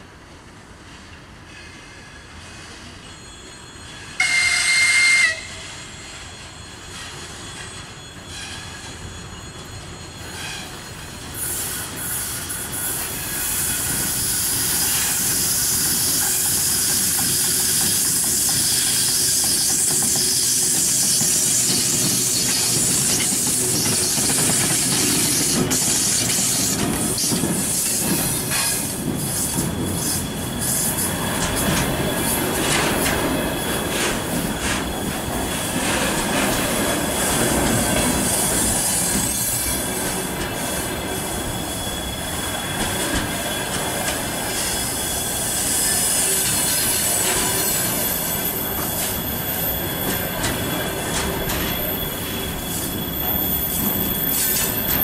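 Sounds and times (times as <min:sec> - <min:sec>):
wheels squealing and hissing: 0:00.9 - 0:55.0.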